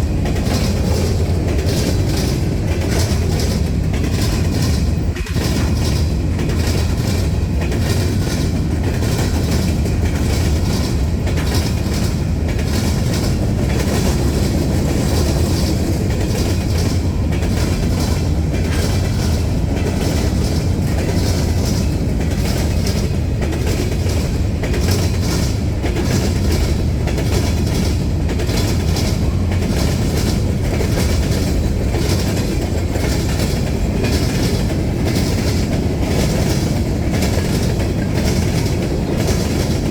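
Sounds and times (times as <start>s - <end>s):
wheels clacking over rail: 0.0s - 39.9s.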